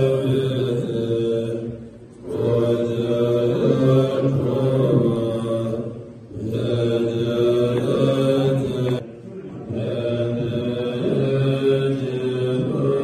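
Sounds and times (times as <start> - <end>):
men chanting in low voices: 0.0 - 13.0.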